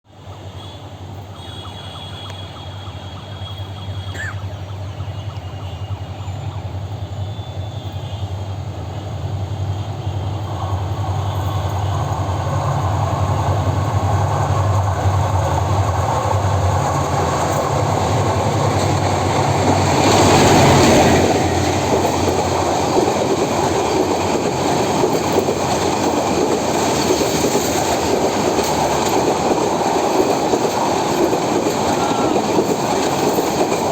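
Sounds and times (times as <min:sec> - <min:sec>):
diesel locomotive engine drone: 0:00.1 - 0:33.9
train coaches rattling past: 0:00.1 - 0:33.9.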